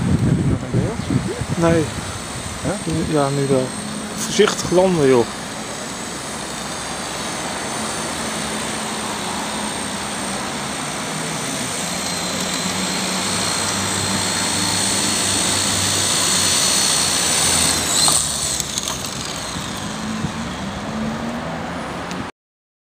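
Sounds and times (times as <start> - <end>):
rc helicopter motor whining: 0.0 - 22.2.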